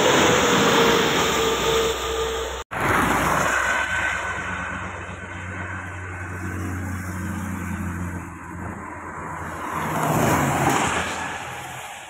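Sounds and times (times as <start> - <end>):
truck passing on highway: 0.0 - 12.0.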